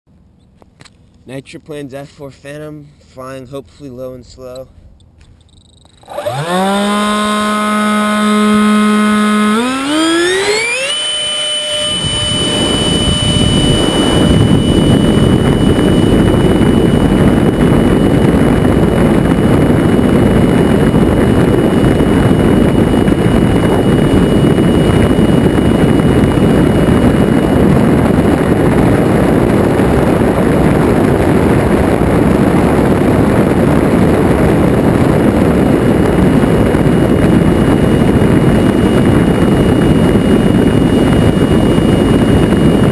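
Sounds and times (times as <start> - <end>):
electric ducted fan whine: 0.1 - 42.9.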